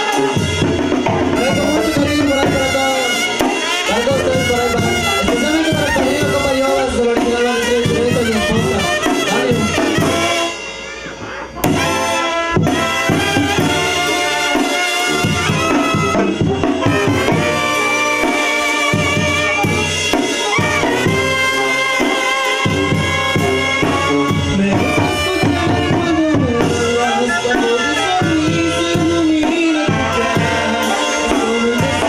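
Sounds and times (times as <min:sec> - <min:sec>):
snare drum: 0:00.0 - 0:11.0, 0:11.6 - 0:32.0
bass drum with cymbal: 0:00.0 - 0:32.0
clarinets and brass playing: 0:00.0 - 0:32.0.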